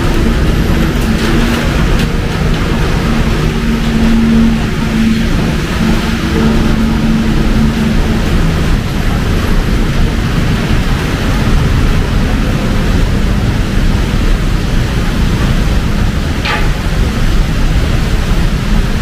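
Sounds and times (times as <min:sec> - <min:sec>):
heavy rain pouring: 0:00.0 - 0:19.0
road traffic rumble: 0:00.0 - 0:19.0.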